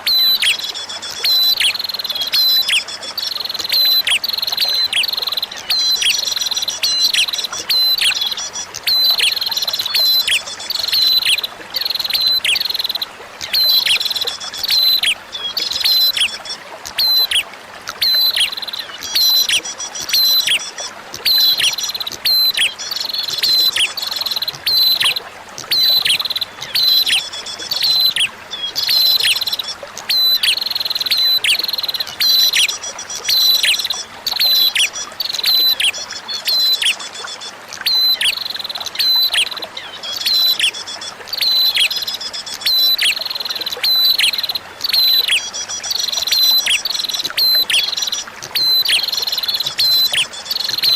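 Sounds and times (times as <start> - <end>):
faint flowing water: 0.0 - 50.9.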